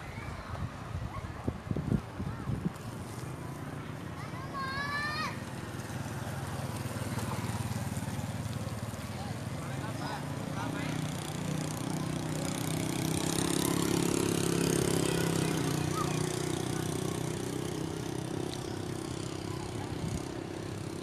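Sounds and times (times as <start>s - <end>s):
vehicle engine passing: 3.1s - 21.0s.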